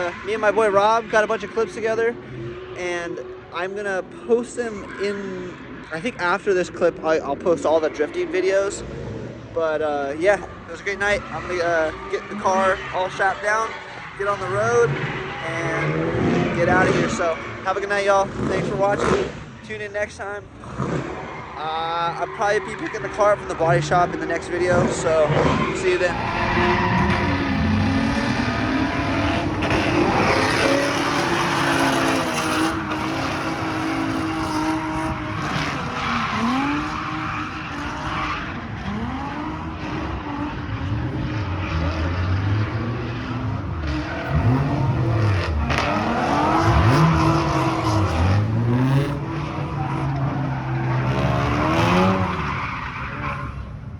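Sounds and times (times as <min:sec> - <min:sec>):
car engine revving: 0:00.0 - 0:53.8
tyres squealing and skidding: 0:00.0 - 0:53.9.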